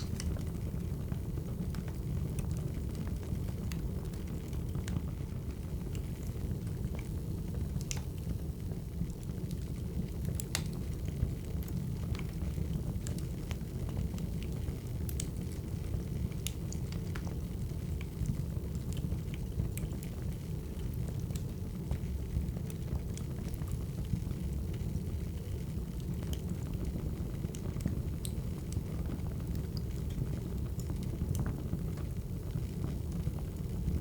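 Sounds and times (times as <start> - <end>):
pops and snaps of burning logs: 0.0 - 8.4, 9.1 - 25.1, 25.8 - 32.1
low rumble of flames: 0.0 - 34.0.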